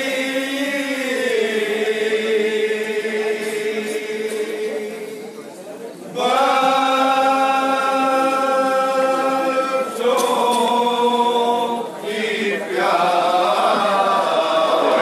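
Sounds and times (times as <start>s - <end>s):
men chanting a lament: 0.0s - 5.4s, 6.1s - 15.0s.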